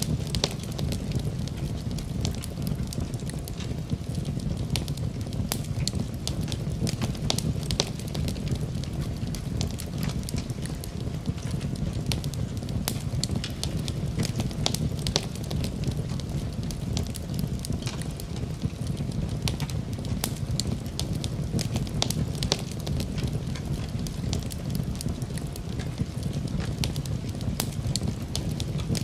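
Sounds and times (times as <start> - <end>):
burning wood crackling and popping: 0.0 - 29.0
low rumble of fire: 0.0 - 29.0.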